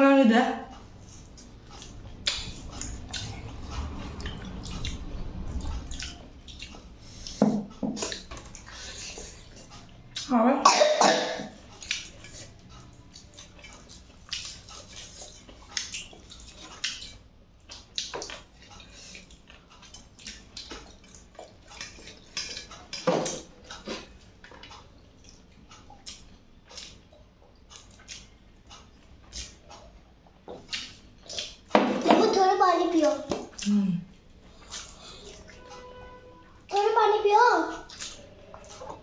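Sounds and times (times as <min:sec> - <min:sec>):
wet chewing and lip-smacking: 0:00.7 - 0:07.4, 0:08.0 - 0:10.3, 0:11.6 - 0:31.7, 0:33.4 - 0:33.8, 0:34.5 - 0:35.6, 0:37.7 - 0:39.0.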